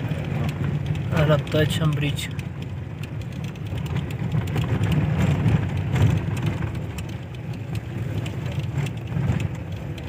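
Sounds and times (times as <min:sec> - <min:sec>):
rattles and knocks: 0:00.0 - 0:10.0
tyres on gravel road: 0:00.0 - 0:10.0
vehicle engine low rumble: 0:00.0 - 0:10.0.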